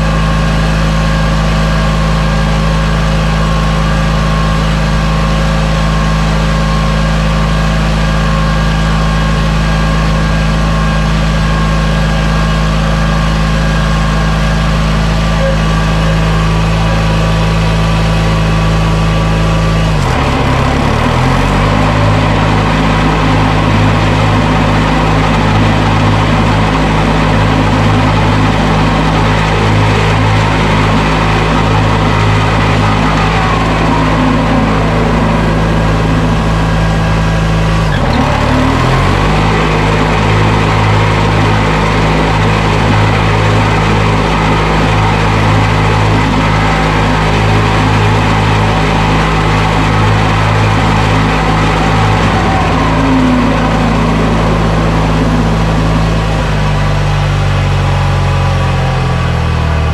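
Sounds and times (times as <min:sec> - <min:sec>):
mower engine running: 0:00.0 - 0:59.9.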